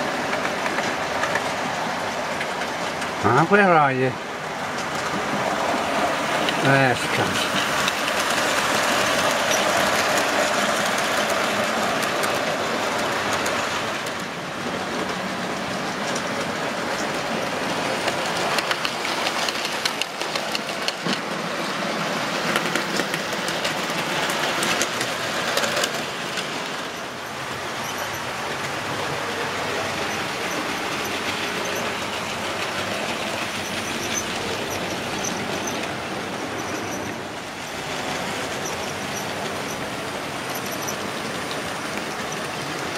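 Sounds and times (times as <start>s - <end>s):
model trains rumbling: 0.0s - 42.9s
rail clicks: 0.0s - 42.9s.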